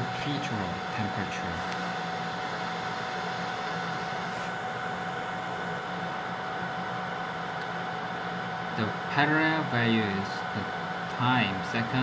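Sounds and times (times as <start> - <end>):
machine fan whir: 0.0 - 12.0.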